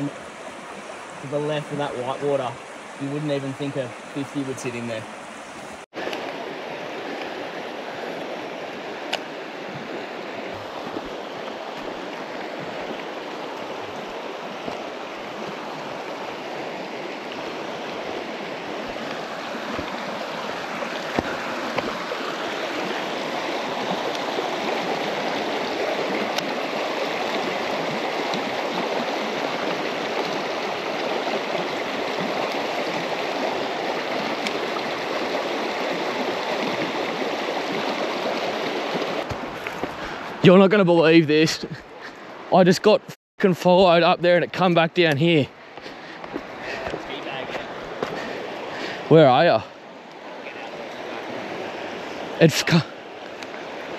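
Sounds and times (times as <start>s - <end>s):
river rapids rushing: 0.0s - 41.7s, 45.5s - 53.9s.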